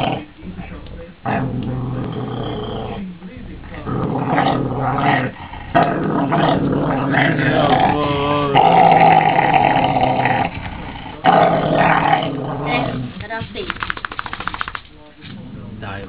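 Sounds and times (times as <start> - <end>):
dog growly moaning: 0.0 - 13.2, 15.2 - 16.0.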